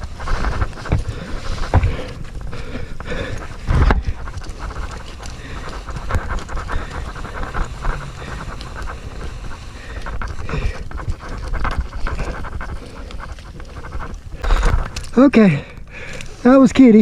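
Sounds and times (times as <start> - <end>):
man breathing hard: 0.0 - 16.5
rustle and rattle of gear: 0.0 - 17.0.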